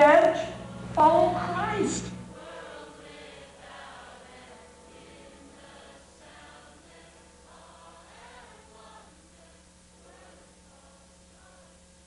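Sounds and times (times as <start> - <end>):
steady low hum: 0.0 - 12.0
faint choir singing: 0.4 - 12.0.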